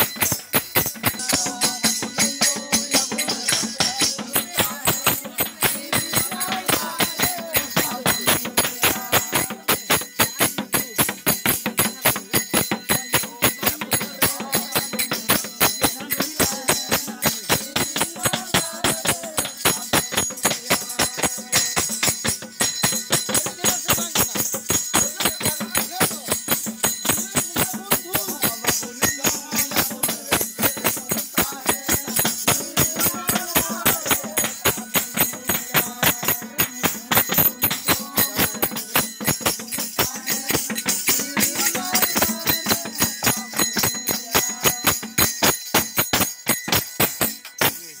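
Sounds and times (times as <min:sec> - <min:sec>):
tambourines and hand cymbals beating: 0:00.0 - 0:48.0.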